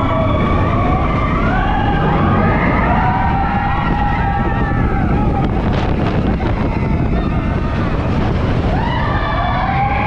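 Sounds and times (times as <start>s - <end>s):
coaster train rumbling on track: 0.0s - 10.0s.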